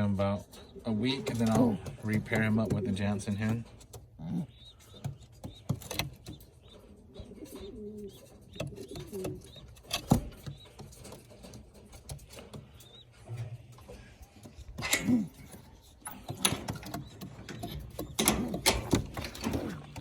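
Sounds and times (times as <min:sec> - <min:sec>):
pigeon cooing: 0:00.0 - 0:20.0
pigeons clicking in nest boxes: 0:00.0 - 0:20.0.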